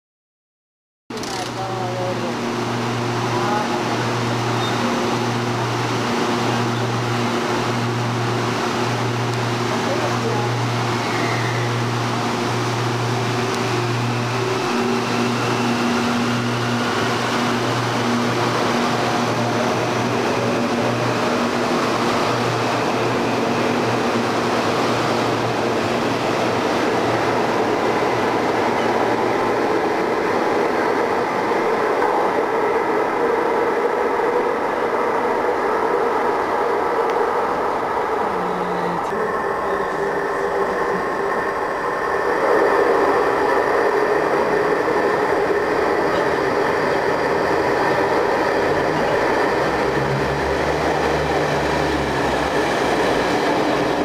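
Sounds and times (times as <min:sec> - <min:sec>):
train electrical hum: 0:01.1 - 0:54.0
train wheels rumbling: 0:01.1 - 0:54.0.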